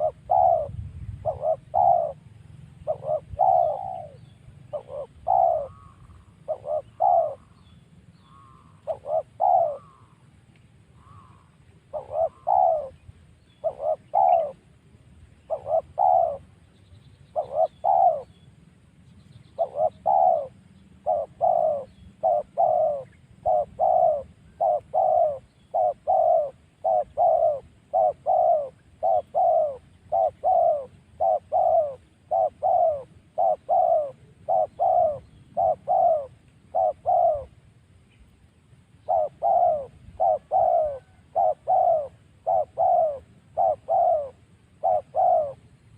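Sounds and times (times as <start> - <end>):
dove cooing: 0.0 - 10.3, 11.0 - 16.7, 17.3 - 18.4, 19.5 - 37.6, 39.0 - 45.9.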